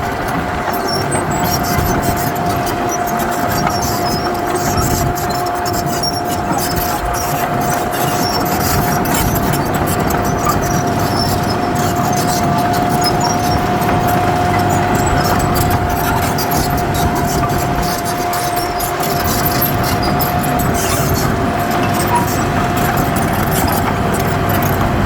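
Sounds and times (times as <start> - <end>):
heavy machinery engine rumble: 0.0 - 25.0.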